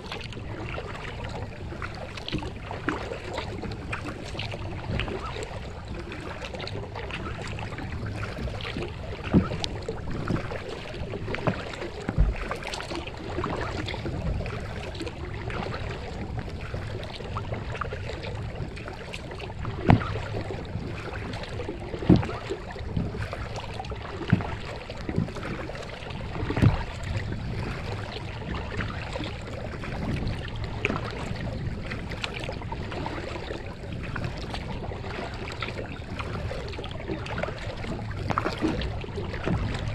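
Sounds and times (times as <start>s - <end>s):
water splashing around paddle: 0.0s - 39.9s.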